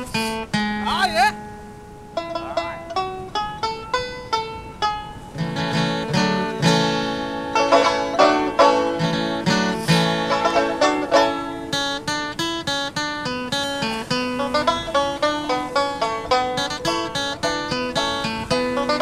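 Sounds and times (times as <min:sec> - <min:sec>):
bluegrass banjo music: 0:00.0 - 0:19.0.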